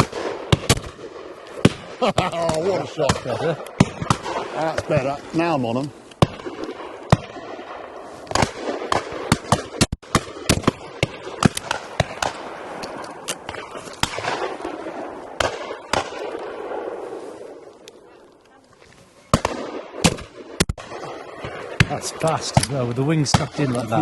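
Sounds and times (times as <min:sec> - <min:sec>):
shotgun shots: 0:00.0 - 0:17.6, 0:19.3 - 0:24.0.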